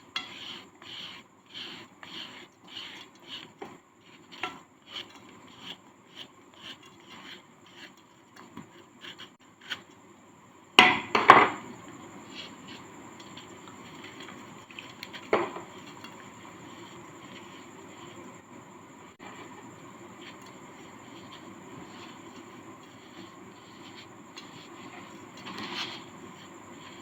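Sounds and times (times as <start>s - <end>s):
dry scraping of sand: 0.0s - 9.9s, 12.2s - 18.5s, 19.1s - 27.0s.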